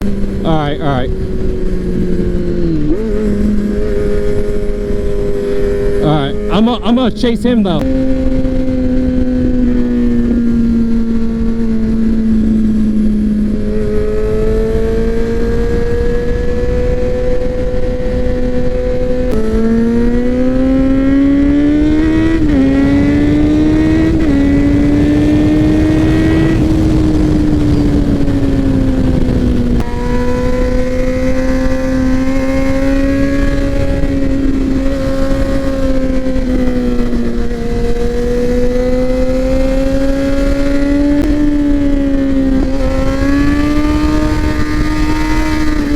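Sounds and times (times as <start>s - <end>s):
motorcycle engine revving: 0.0s - 45.9s
wind rushing: 0.0s - 45.9s.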